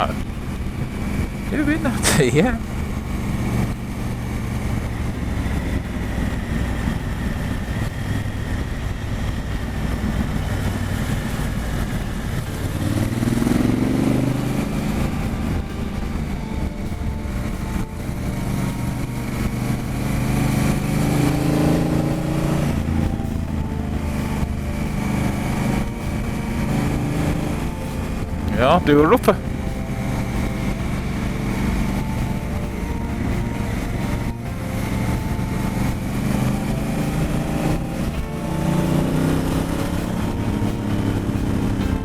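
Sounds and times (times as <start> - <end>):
motorcycle engine accelerating: 0.0 - 42.0
wind noise: 0.0 - 42.0.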